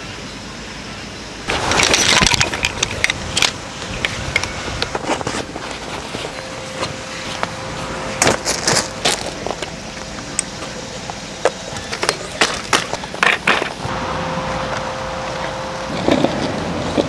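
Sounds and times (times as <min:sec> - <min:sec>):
gravel crunching: 0:01.4 - 0:17.0.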